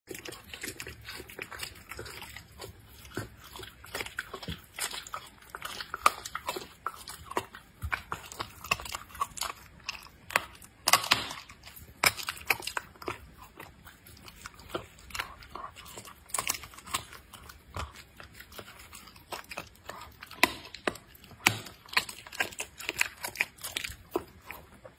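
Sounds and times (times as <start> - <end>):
animal chewing and licking: 0.1 - 24.9.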